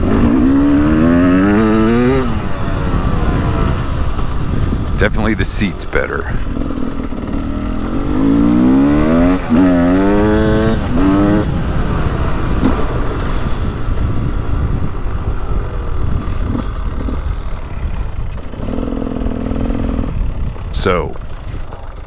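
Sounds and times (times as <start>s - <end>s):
dirt bike engine accelerating: 0.0s - 22.0s.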